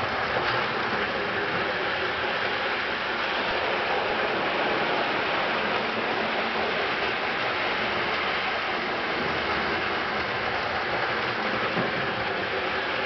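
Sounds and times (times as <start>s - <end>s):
model trolley rushing on track: 0.0s - 13.0s.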